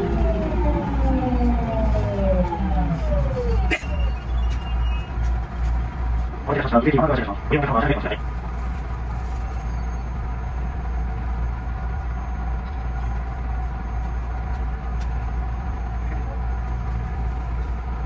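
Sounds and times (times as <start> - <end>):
train equipment humming: 0.0 - 18.0.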